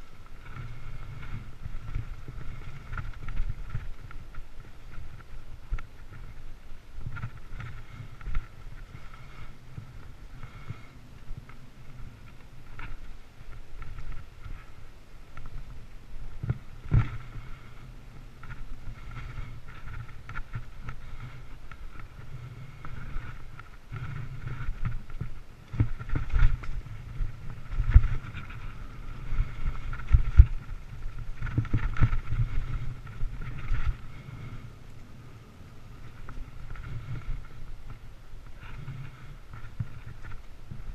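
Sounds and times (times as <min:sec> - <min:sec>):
bike rumble and rattle: 0:00.0 - 0:40.9
wind on microphone: 0:00.0 - 0:40.9.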